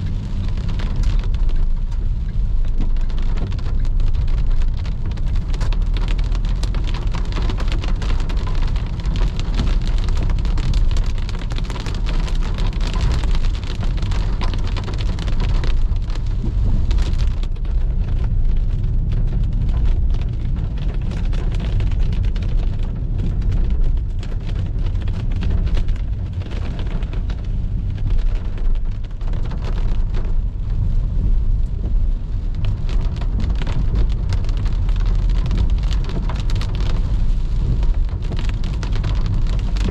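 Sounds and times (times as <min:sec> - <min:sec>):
car rumbling on wet road: 0:00.0 - 0:39.9
rain pattering on a car: 0:00.0 - 0:39.9.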